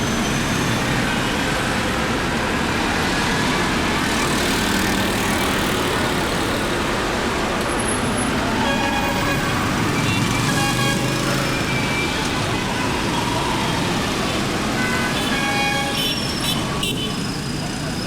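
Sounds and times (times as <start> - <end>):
surrounding traffic: 0.0 - 18.0
motorcycle engine and road noise: 0.1 - 18.0.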